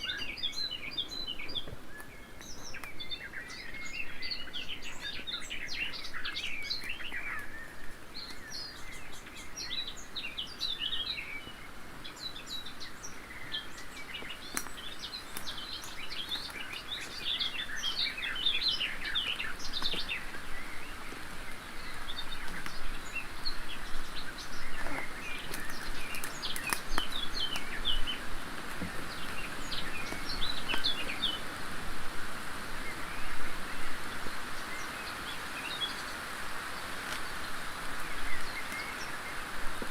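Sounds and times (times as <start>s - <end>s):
faint hiss: 0.0s - 39.9s
songbirds singing: 0.0s - 39.9s.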